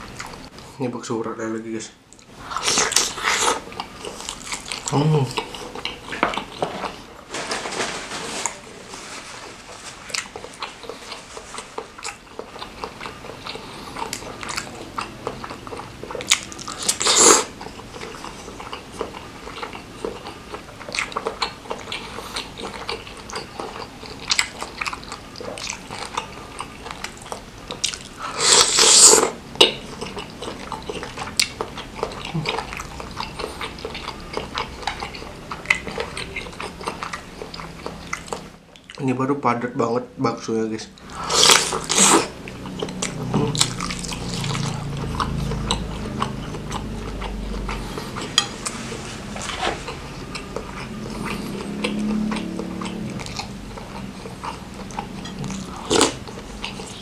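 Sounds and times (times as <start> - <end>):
person chewing wet food: 0.0 - 0.7, 2.1 - 7.3, 9.3 - 39.1, 41.0 - 57.0.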